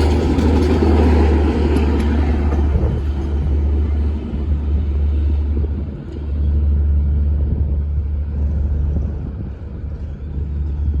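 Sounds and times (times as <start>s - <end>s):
diesel locomotive rumbling by: 0.0s - 11.0s.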